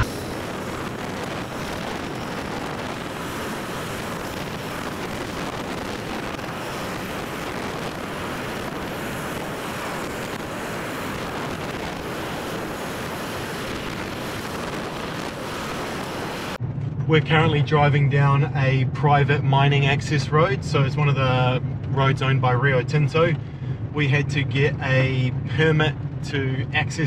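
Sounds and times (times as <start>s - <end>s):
rushing wind: 0.0s - 27.0s
vehicle road noise: 0.0s - 27.0s.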